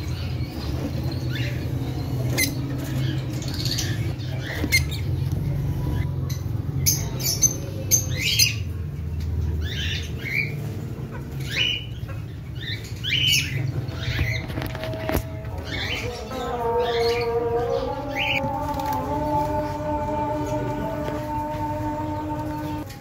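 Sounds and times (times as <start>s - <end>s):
lovebirds chirping and squawking: 0.0s - 23.0s.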